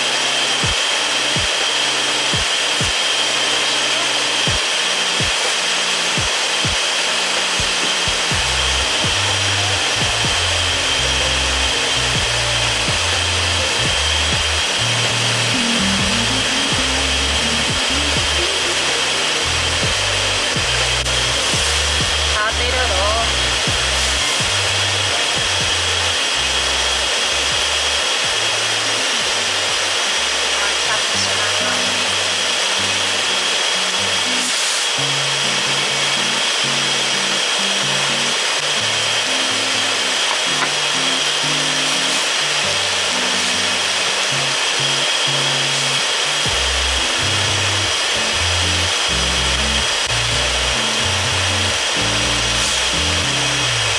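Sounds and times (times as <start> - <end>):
steady hiss: 0.0 - 53.9
background music with bass line: 7.5 - 53.9.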